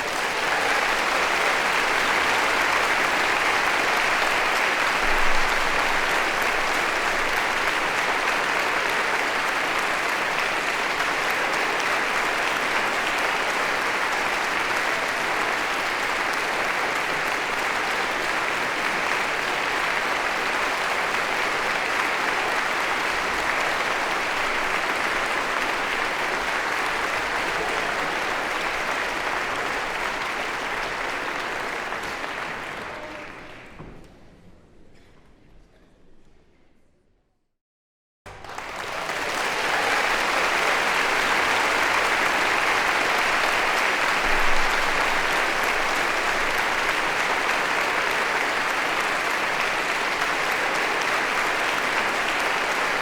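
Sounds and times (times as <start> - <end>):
crowd applause: 0.0 - 33.9, 38.3 - 53.0.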